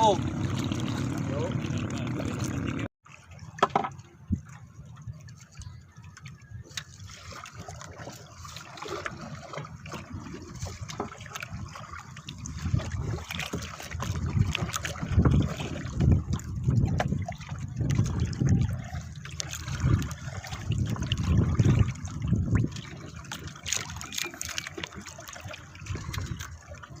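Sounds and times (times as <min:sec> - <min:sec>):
water sloshing around boat: 0:00.0 - 0:27.0.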